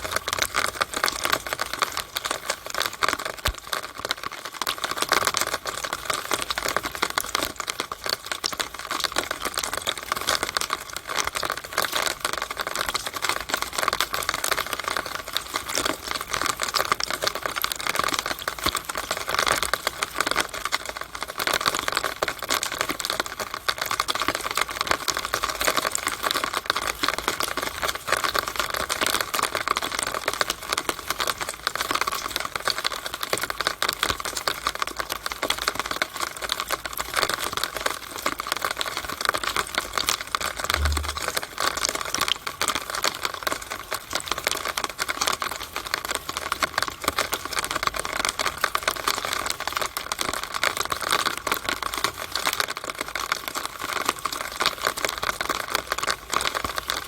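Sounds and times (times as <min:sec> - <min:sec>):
rainwater dripping in a downspout: 0:00.0 - 0:57.0.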